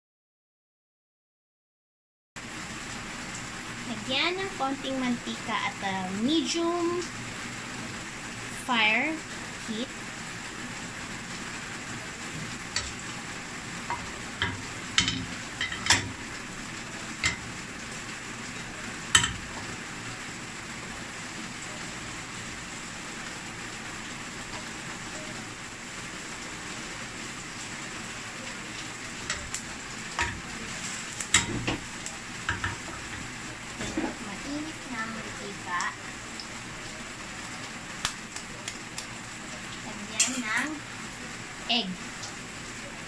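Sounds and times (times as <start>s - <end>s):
oil hissing in a pan: 2.4s - 43.0s.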